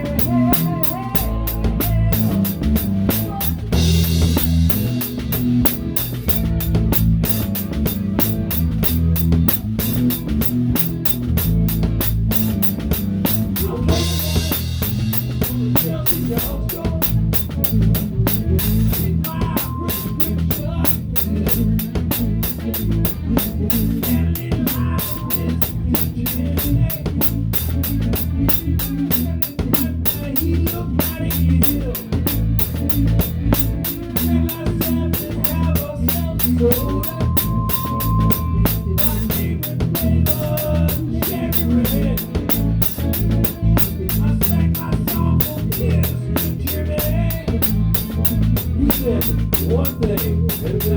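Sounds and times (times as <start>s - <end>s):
damped snare drum beat: 0.0s - 50.9s
live rock band playing: 0.0s - 50.9s.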